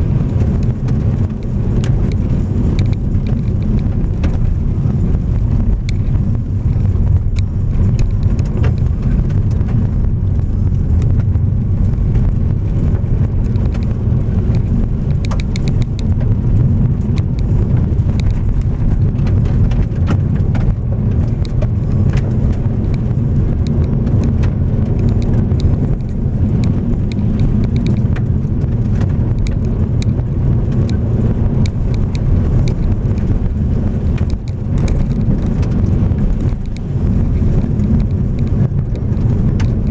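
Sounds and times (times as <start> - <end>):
tyres and engine rumbling on gravel: 0.0 - 39.9.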